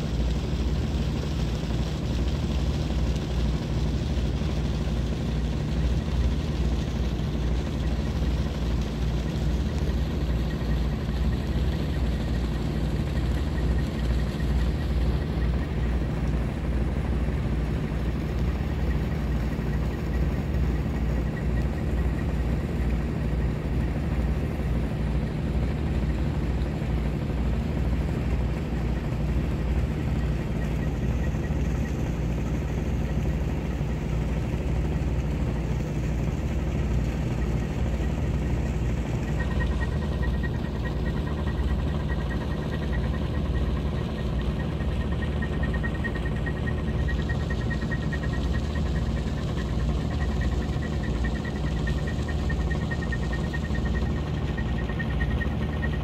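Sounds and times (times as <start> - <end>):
ship diesel engine drone: 0.0 - 56.0.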